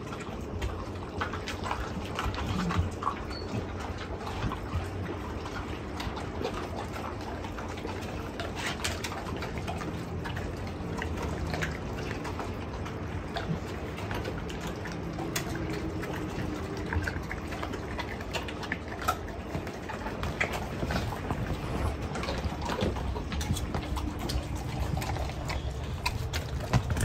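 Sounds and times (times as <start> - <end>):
dogs chewing and slurping: 0.0 - 27.0.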